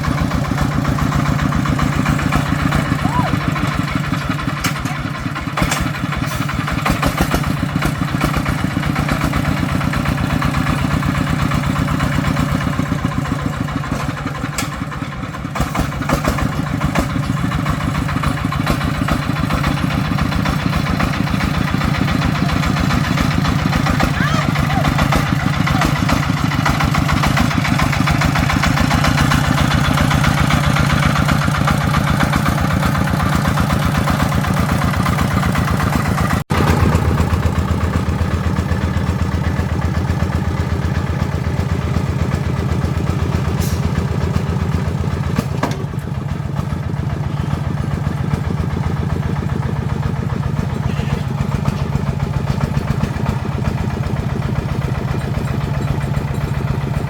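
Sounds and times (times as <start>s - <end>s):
truck engine chugging: 0.0s - 57.0s.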